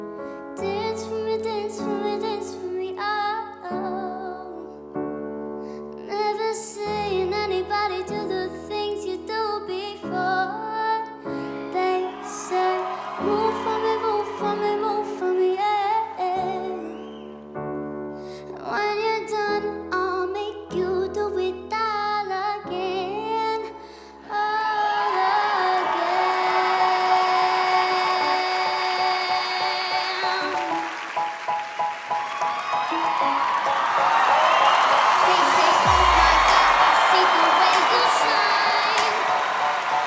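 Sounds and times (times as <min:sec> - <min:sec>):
woman singing slow melody: 0:00.6 - 0:05.0, 0:05.9 - 0:17.3, 0:18.4 - 0:31.0, 0:35.2 - 0:39.5.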